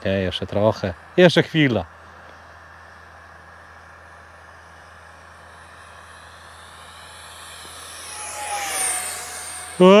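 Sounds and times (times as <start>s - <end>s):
electric ducted fan whine: 0.0s - 10.0s.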